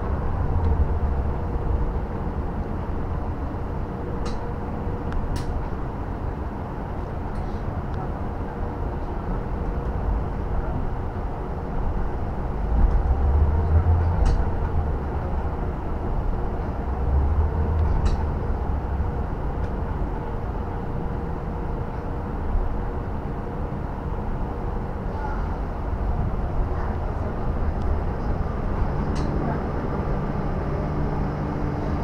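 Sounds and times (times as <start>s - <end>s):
rumble of tyres on road: 0.0s - 32.0s.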